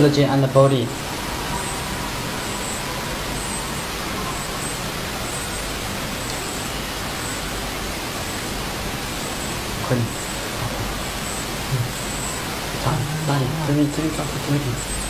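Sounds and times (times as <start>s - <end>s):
machine whooshing hiss: 0.9s - 15.0s.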